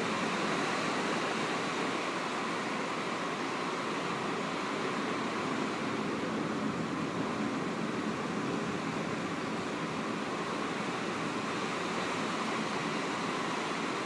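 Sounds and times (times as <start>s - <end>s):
heavy rain: 0.0s - 14.0s
rough sea surf roaring: 0.0s - 14.0s.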